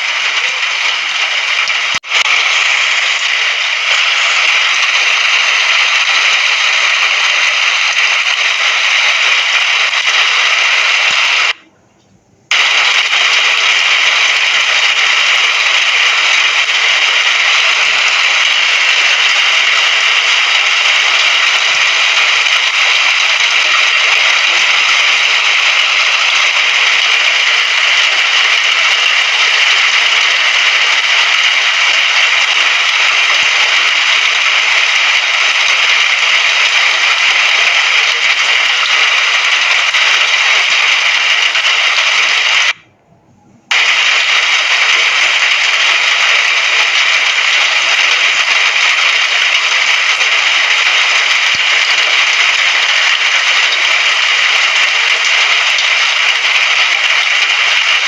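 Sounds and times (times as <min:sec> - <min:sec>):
falling rain hissing: 0:00.0 - 0:11.6, 0:12.5 - 0:42.8, 0:43.7 - 0:58.0.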